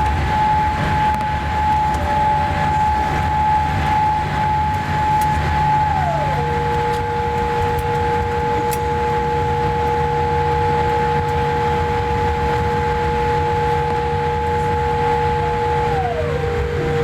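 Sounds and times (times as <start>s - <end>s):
airliner cabin low rumble: 0.0s - 17.0s
whining tones: 0.0s - 17.0s.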